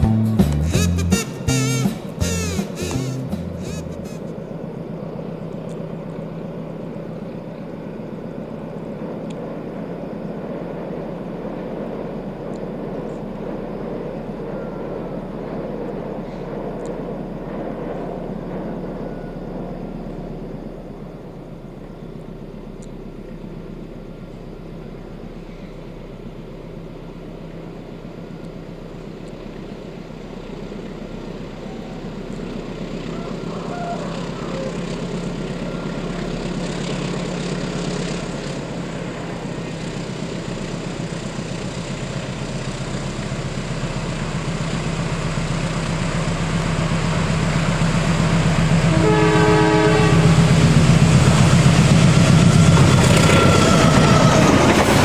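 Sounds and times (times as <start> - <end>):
distant diesel locomotive drone: 0.0 - 55.0.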